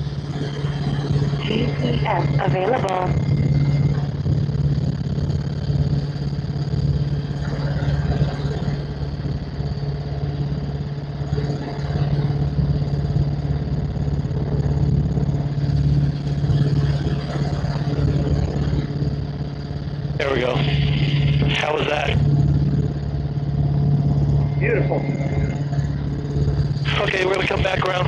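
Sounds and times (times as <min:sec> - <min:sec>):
helicopter engine and rotor drone: 0:00.0 - 0:28.0.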